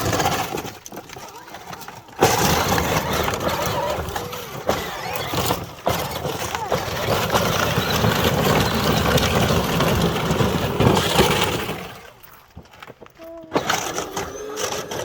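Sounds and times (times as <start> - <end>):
plastic wheels crunching over gravel: 0.0 - 15.0.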